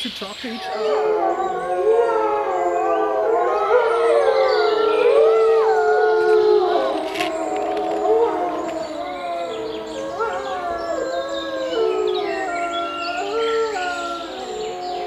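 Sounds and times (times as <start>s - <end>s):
wolves howling in chorus: 0.5s - 15.0s.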